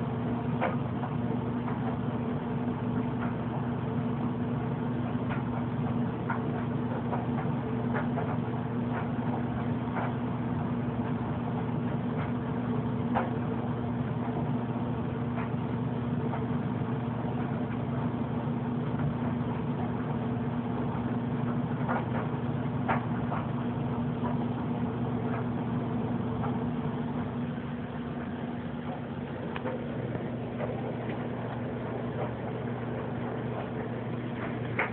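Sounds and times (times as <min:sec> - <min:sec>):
low machine hum: 0:00.0 - 0:34.9.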